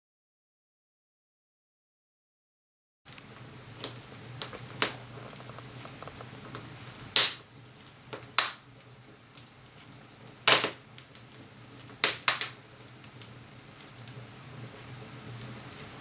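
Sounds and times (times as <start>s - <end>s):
wood crackling and popping in stove: 3.1s - 16.0s.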